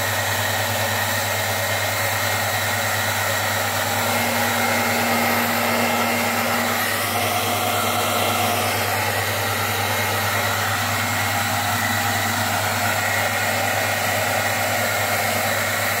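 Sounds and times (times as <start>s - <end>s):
electric appliance motor whirring: 0.0s - 16.0s.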